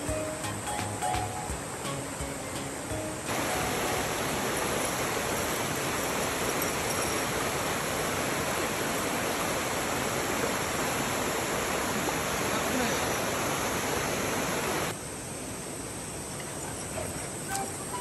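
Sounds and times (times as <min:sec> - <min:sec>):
river rushing over stones: 0:00.0 - 0:15.0.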